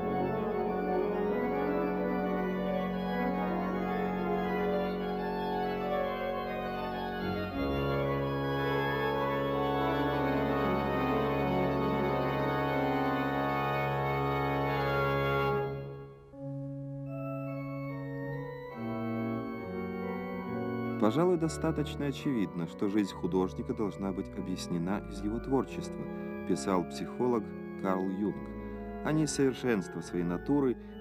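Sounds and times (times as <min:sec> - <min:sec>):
organ playing slow chords: 0:00.0 - 0:31.0.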